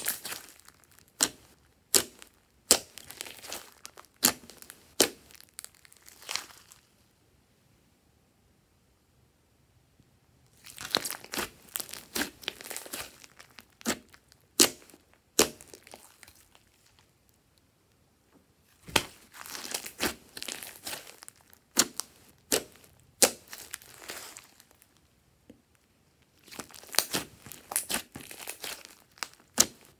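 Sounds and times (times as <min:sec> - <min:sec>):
slime squelching and popping: 0:00.0 - 0:06.8, 0:10.5 - 0:17.3, 0:18.8 - 0:25.0, 0:25.6 - 0:29.9.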